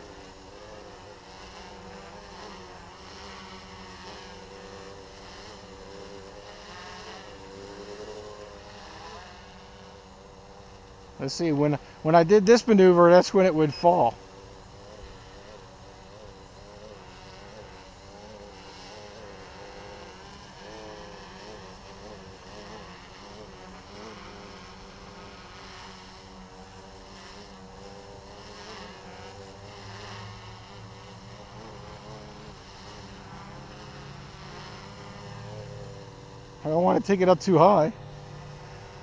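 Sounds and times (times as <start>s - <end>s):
quadcopter motors buzzing: 0.0s - 39.0s.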